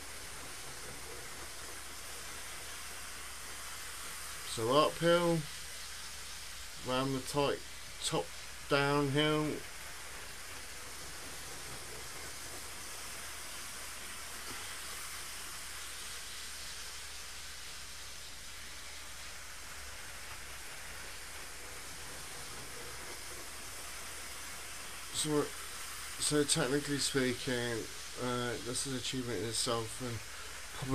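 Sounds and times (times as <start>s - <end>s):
model train rushing on rails: 0.0s - 30.9s.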